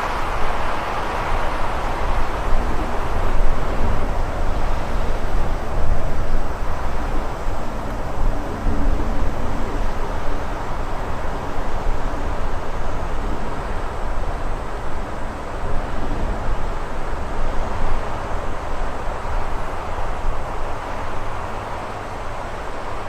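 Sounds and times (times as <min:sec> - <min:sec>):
gusty wind with deep rumble: 0:00.0 - 0:23.0.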